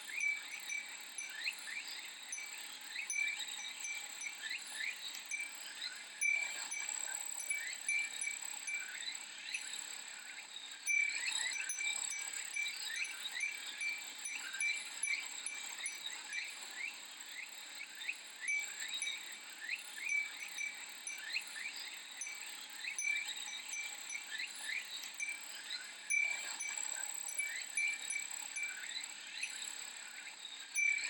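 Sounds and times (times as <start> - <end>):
wind chime tinkling: 0.0 - 9.8, 10.9 - 16.9, 18.4 - 29.7, 30.7 - 31.0
cicadas droning and chirping: 0.0 - 31.0.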